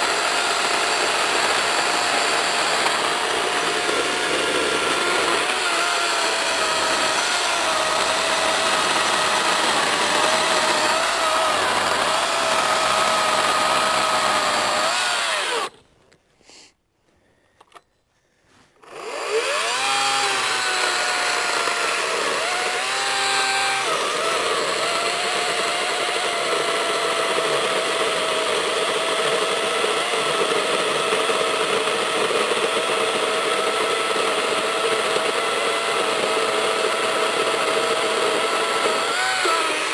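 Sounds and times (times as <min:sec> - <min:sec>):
chainsaw cutting log: 0:00.0 - 0:15.8, 0:18.7 - 0:39.9
electric motor whine: 0:00.0 - 0:15.8, 0:18.8 - 0:39.9.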